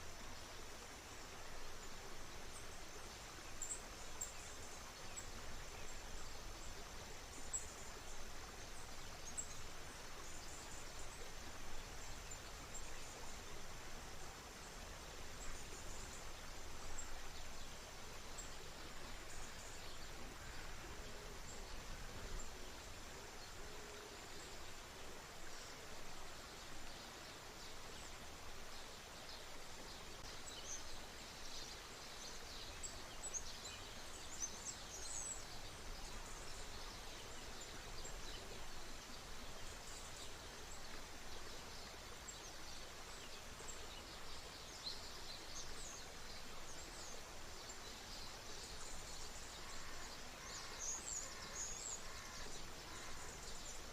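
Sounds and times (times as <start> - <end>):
river water flowing: 0.0 - 53.9.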